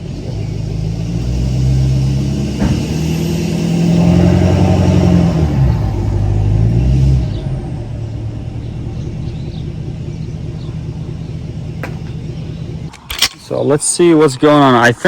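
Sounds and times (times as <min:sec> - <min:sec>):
vehicle engine straining: 0:00.0 - 0:15.0.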